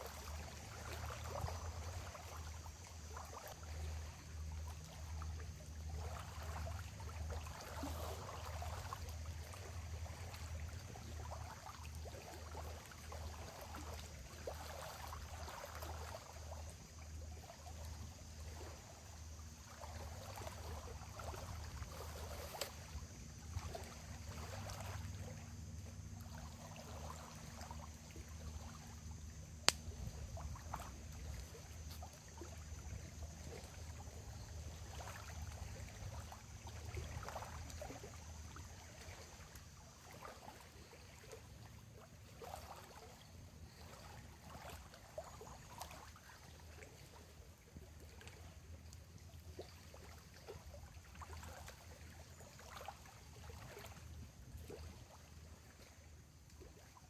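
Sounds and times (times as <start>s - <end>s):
waves lapping at shore: 0.0s - 57.0s.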